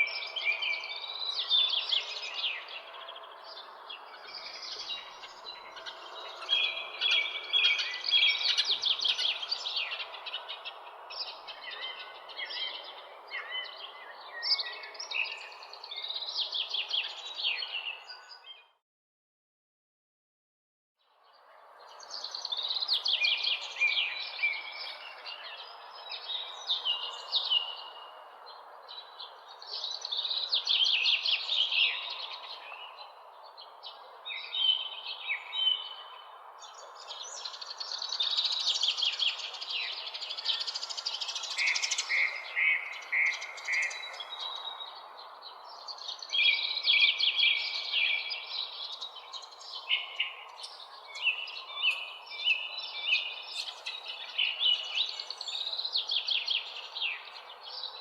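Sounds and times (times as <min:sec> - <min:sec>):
songbirds chirping: 0:00.0 - 0:18.8, 0:21.0 - 0:58.0.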